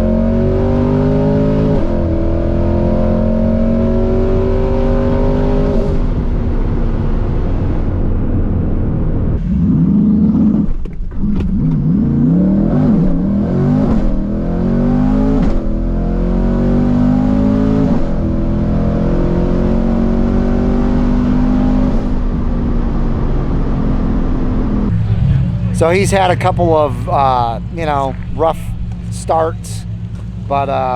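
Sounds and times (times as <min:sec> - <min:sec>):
sports car engine revving: 0:00.0 - 0:30.9.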